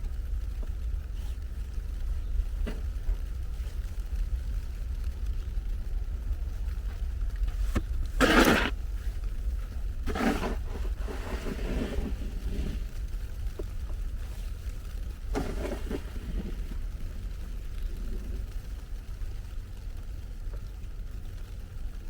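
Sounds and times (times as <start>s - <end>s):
low wind rumble on microphone: 0.0s - 22.0s.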